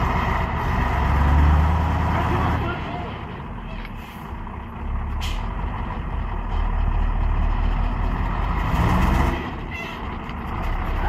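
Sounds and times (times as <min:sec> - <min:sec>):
diesel truck engine labouring: 0:00.0 - 0:11.0.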